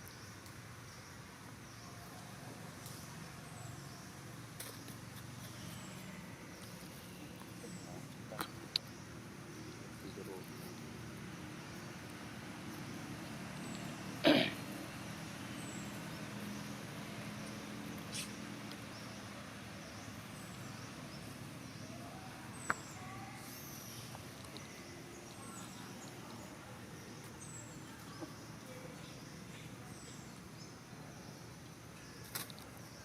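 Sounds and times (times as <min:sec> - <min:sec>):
background hiss: 0:00.0 - 0:33.0.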